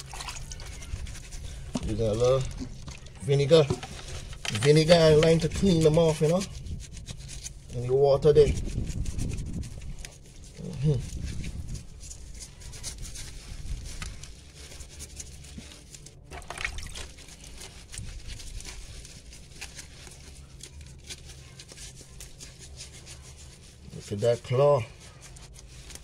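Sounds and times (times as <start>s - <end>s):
sponge scrubbing crab shell: 0.0s - 26.0s.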